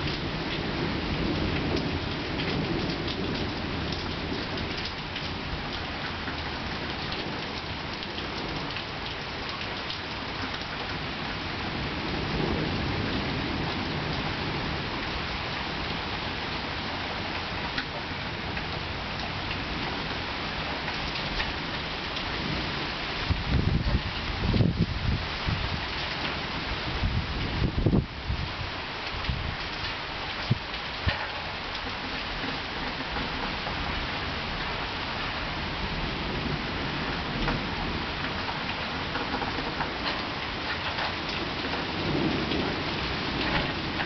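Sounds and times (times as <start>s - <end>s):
low rolls of thunder: 0.0s - 9.1s, 9.7s - 16.5s, 17.1s - 29.6s, 30.4s - 44.0s
rain pattering: 0.0s - 44.0s.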